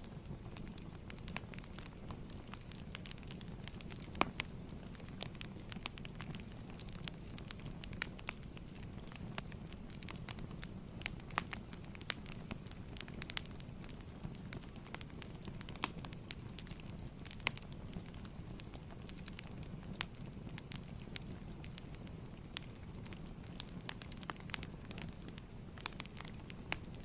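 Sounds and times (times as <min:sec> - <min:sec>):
fire crackling in fireplace: 0:00.0 - 0:27.0.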